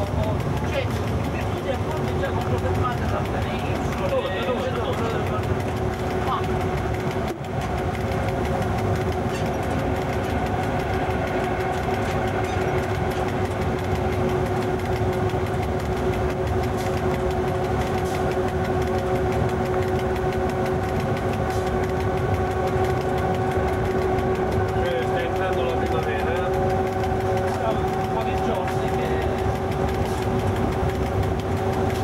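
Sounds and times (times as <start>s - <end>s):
locomotive humming tones: 0.0s - 32.0s
train wheels rumbling on track: 0.0s - 32.0s.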